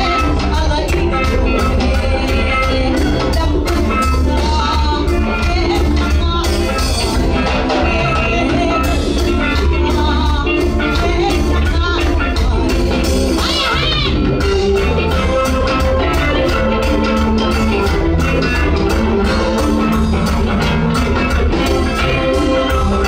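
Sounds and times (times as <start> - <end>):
bass line: 0.0 - 23.0
live pop band playing: 0.0 - 23.0
woman singing lead: 0.0 - 23.0.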